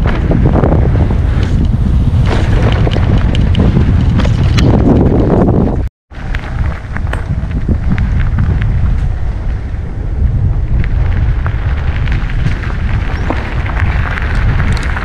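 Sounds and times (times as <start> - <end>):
rumble of tyres on gravel: 0.0 - 15.0
wind buffeting microphone: 0.0 - 15.0
bike clicks and rattles: 1.2 - 9.8, 10.7 - 15.0.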